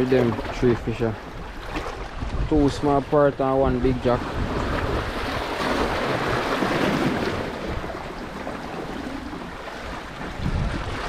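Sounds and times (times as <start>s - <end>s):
sea surf washing ashore: 0.0s - 11.0s
wind buffeting microphone: 0.0s - 11.0s.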